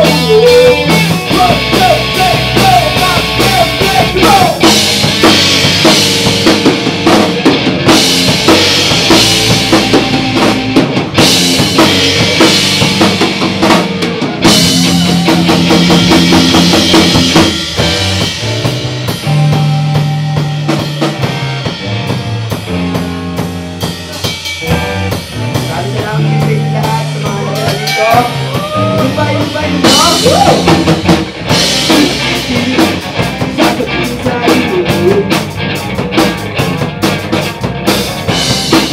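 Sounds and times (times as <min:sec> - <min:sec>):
bass guitar: 0:00.0 - 0:38.9
drum kit with cymbals: 0:00.0 - 0:38.9
electric guitar: 0:00.0 - 0:38.9.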